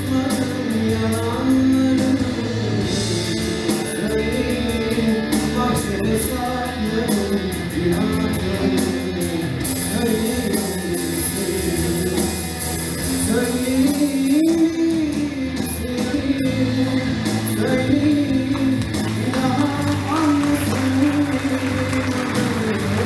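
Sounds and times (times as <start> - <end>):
bass: 0.0 - 23.0
guitar: 0.0 - 23.0
melodic lead line: 0.0 - 23.0
school band playing pop-rock: 0.0 - 23.0.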